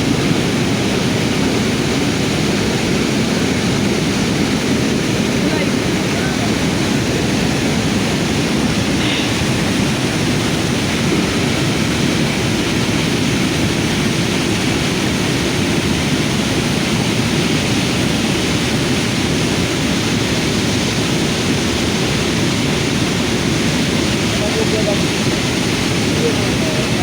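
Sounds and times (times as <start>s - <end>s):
rushing floodwater: 0.0s - 27.0s.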